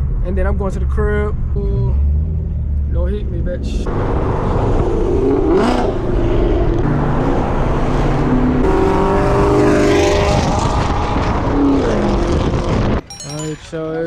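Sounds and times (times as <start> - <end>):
car engines revving: 0.0 - 13.0
exhaust and tyre noise: 0.0 - 13.0.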